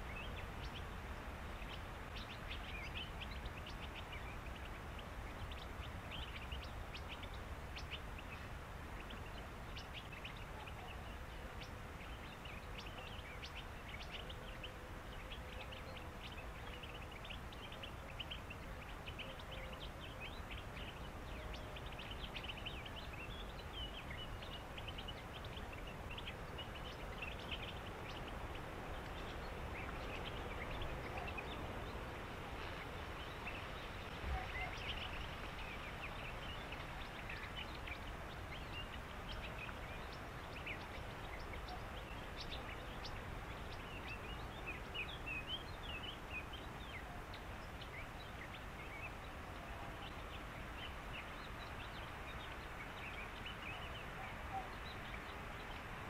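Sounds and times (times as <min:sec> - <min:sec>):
background hiss and low rumble: 0:00.0 - 0:56.0.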